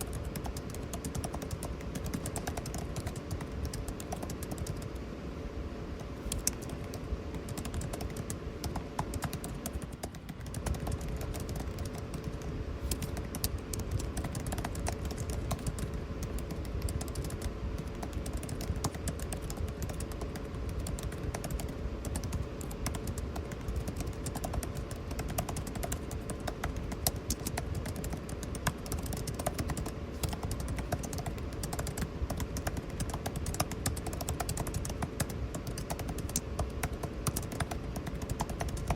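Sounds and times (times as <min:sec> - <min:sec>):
keyboard key clicks: 0:00.0 - 0:04.9, 0:06.0 - 0:38.9
air conditioning hum: 0:00.0 - 0:38.9.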